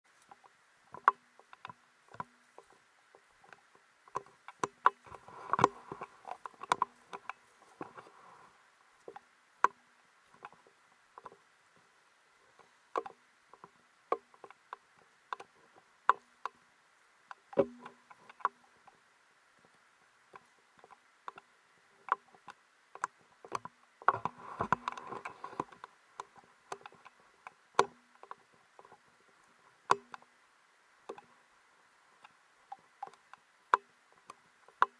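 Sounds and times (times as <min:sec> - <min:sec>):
shrubs rustling: 0:00.1 - 0:30.0.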